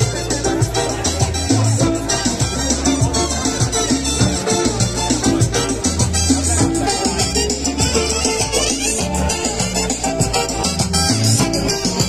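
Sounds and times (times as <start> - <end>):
salsa music: 0.0 - 12.0.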